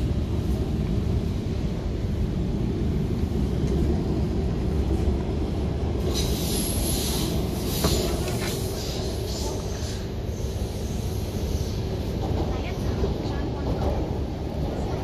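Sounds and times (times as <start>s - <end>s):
hissing wheel-on-rail noise: 0.0s - 15.0s
train running gear rumble: 0.0s - 15.0s.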